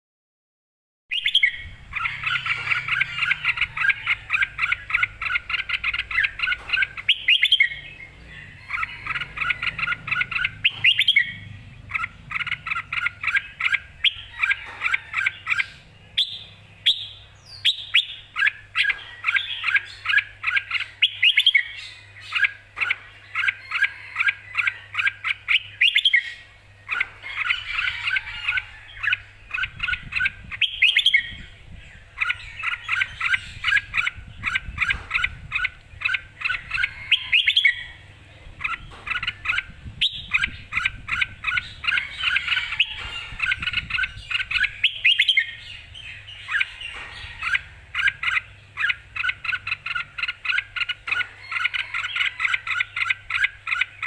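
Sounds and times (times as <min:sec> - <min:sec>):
bird chirping song: 0:01.1 - 0:54.0.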